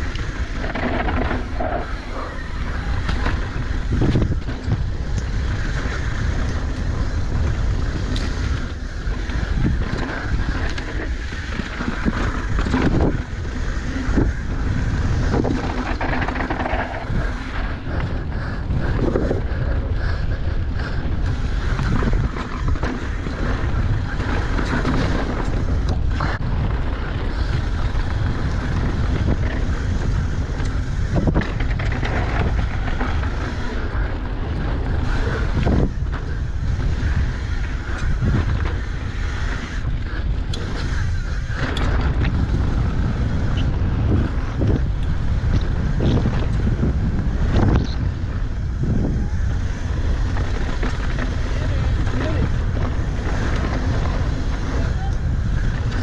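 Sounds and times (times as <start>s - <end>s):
bike knocking and rattling: 0.0s - 56.0s
tyres rolling over dirt trail: 0.0s - 56.0s
wind rushing over microphone: 0.0s - 56.0s.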